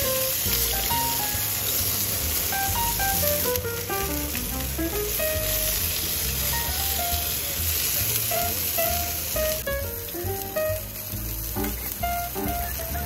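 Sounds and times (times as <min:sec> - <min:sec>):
background music melody: 0:00.0 - 0:13.0
meat sizzling in a skillet: 0:00.0 - 0:13.0.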